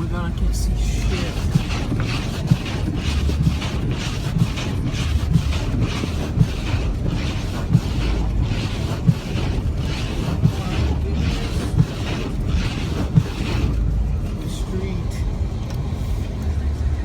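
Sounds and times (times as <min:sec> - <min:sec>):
car engine and road rumble: 0:00.0 - 0:17.0
windshield wipers swishing: 0:00.0 - 0:17.0.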